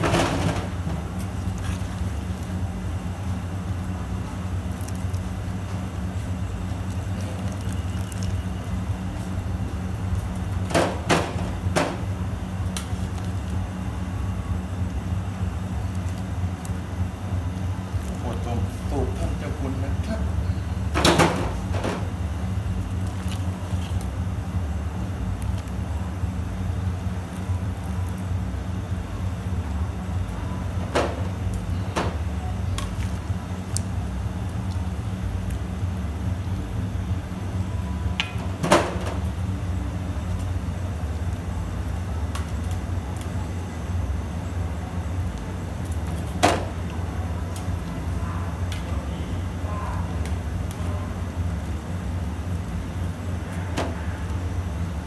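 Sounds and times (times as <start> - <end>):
steady low hum: 0.0 - 55.0
steady low rumble: 0.0 - 55.0.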